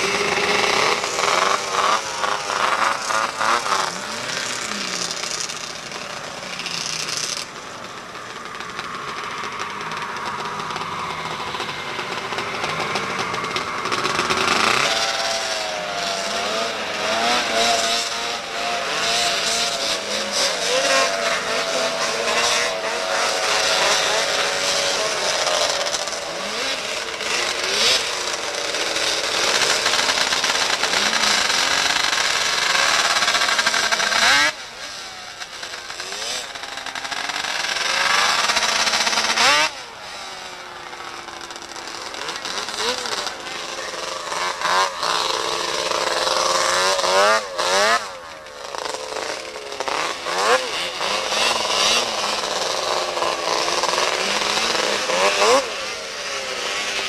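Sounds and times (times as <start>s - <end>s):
snowmobile engines revving: 0.0s - 57.0s.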